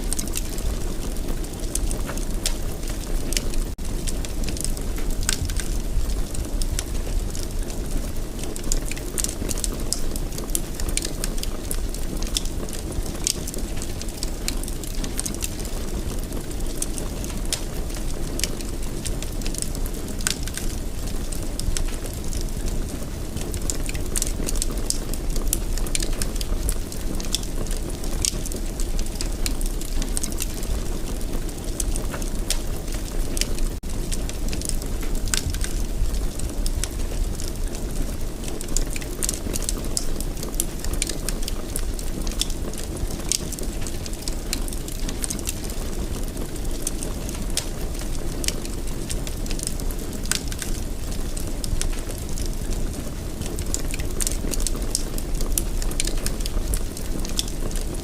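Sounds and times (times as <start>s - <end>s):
fire burning in fireplace: 0.0s - 58.0s
fire crackling and popping: 0.0s - 58.0s.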